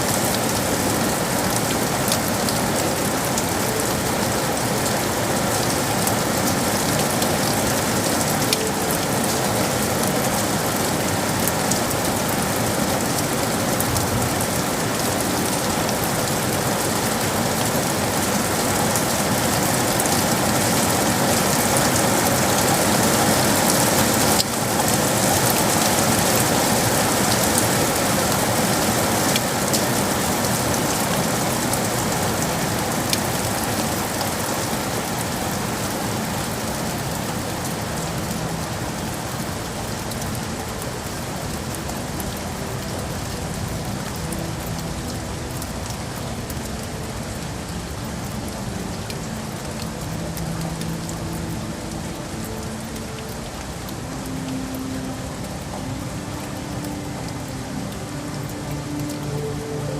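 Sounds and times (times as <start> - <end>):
rain on hard surfaces: 0.0 - 59.9.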